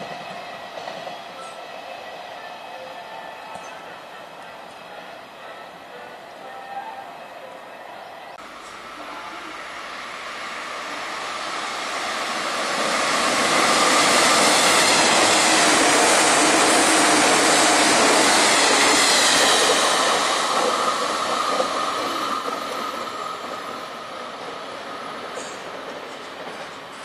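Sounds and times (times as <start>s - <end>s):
train wheels rushing on rails: 0.0s - 6.8s, 8.0s - 27.0s.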